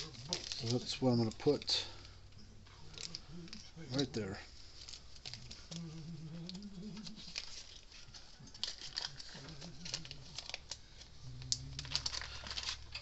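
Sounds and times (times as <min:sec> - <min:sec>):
paper rustling and crinkling: 0:00.0 - 0:02.1, 0:02.7 - 0:13.0
faint low hum: 0:00.0 - 0:13.0.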